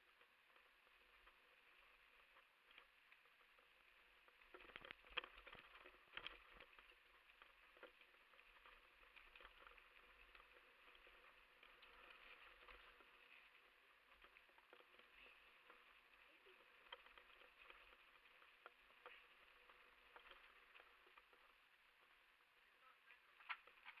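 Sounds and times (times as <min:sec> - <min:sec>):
mountain bike rattling on trail: 0:00.0 - 0:24.0.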